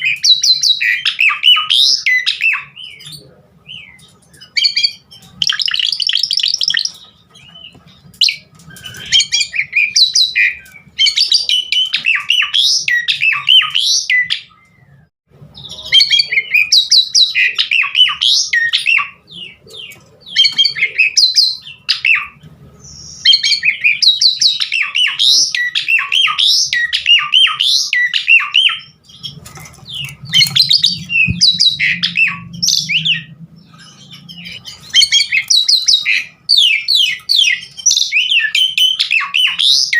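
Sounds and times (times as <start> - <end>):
starling singing whistles and chatters: 0.0 - 39.9.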